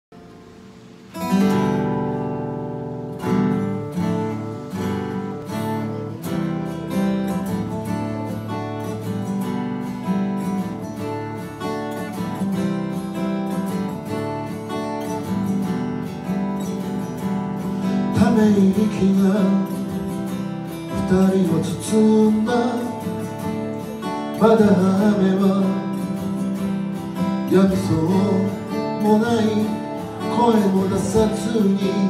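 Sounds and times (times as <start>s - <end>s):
solo acoustic guitar strumming: 0.2s - 32.0s.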